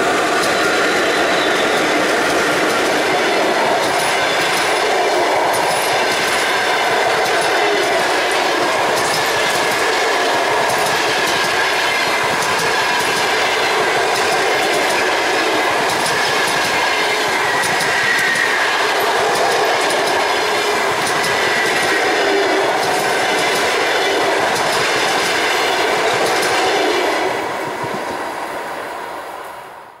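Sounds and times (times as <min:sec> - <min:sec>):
train wheels rumbling and clattering: 0:00.0 - 0:29.3.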